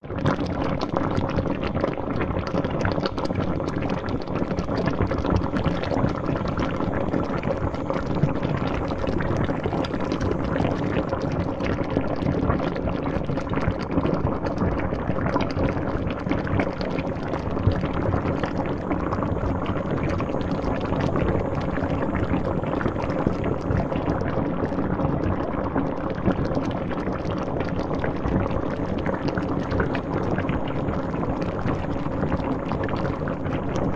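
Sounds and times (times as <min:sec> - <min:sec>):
water boiling in a pot: 0:00.0 - 0:33.9.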